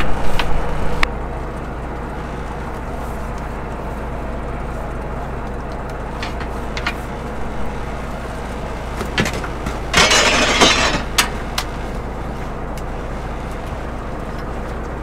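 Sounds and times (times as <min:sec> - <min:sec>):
boat engine and line hauler running: 0:00.0 - 0:15.0.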